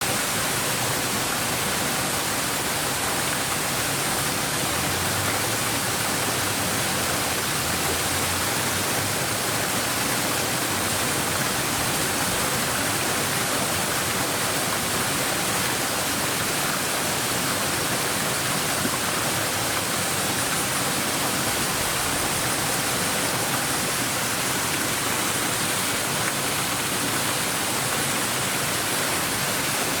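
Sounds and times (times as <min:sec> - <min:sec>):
shallow stream babbling: 0:00.0 - 0:30.0.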